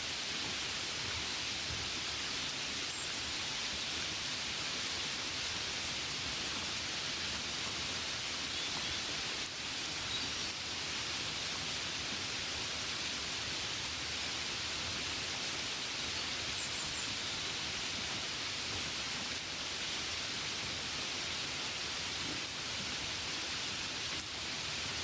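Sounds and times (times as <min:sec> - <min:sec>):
gentle rain falling: 0:00.0 - 0:25.0.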